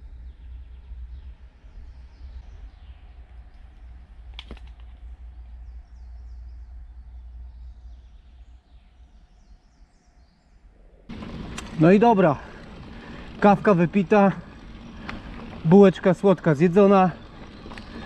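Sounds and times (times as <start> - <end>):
steady low rumble: 0.0 - 10.0, 10.8 - 18.0
faint birds chirping: 0.0 - 18.0.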